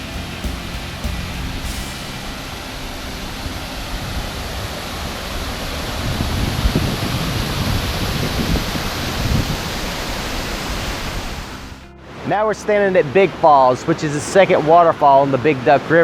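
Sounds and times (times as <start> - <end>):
low rumble: 0.0 - 13.0
waterfall rushing: 0.0 - 16.0.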